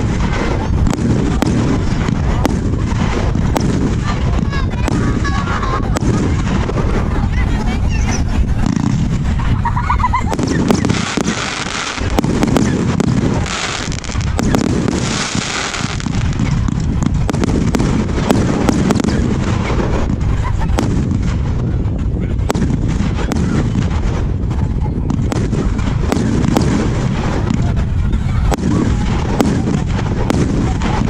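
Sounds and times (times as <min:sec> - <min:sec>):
fireworks bangs rumbling: 0:00.0 - 0:31.0
fireworks cracks and crackles: 0:00.0 - 0:31.0.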